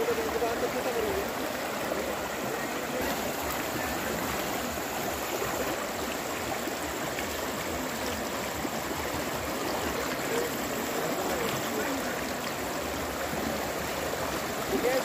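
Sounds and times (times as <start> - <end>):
floodwater rushing across a road: 0.0 - 15.0.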